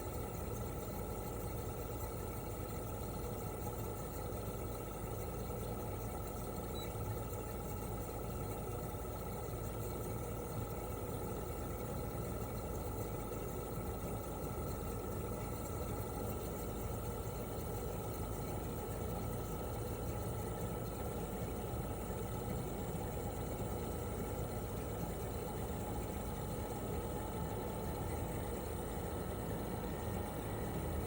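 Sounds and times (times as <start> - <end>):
air conditioner unit humming: 0.0 - 31.0.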